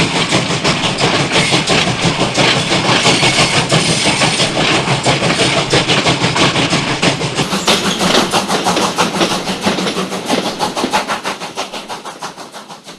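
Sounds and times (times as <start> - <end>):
steam locomotive chuffing: 0.0 - 12.9.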